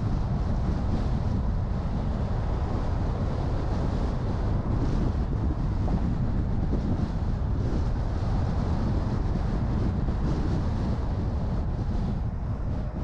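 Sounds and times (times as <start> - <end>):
road noise: 0.0 - 13.0
wind noise: 0.0 - 13.0.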